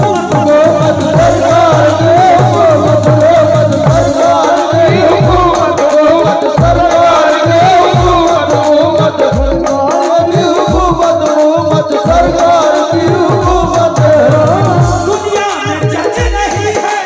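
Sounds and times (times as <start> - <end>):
hand drum beat: 0.0 - 17.0
harmonium: 0.0 - 17.0
person singing: 0.0 - 17.0.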